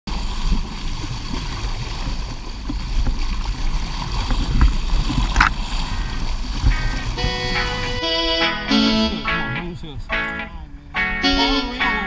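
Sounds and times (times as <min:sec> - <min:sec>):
heavy low rumble: 0:00.1 - 0:11.8
water rushing along boat hull: 0:00.1 - 0:12.0.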